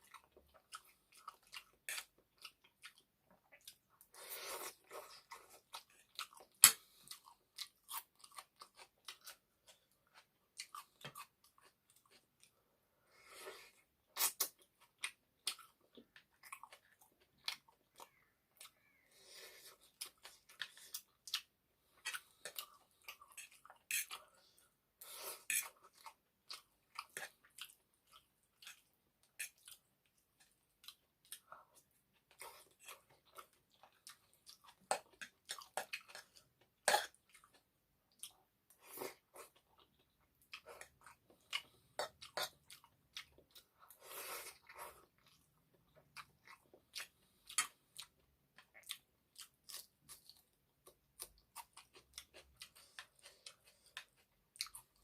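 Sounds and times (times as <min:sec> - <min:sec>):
chewing noodles: 0:00.0 - 0:55.0.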